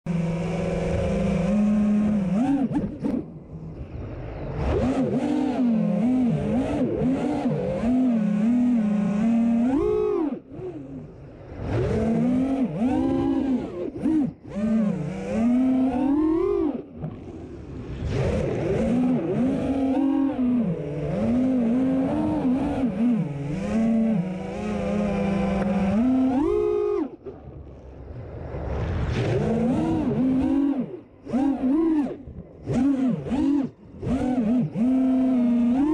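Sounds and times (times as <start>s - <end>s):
quadcopter motors whining: 0.1s - 28.5s, 29.1s - 35.9s.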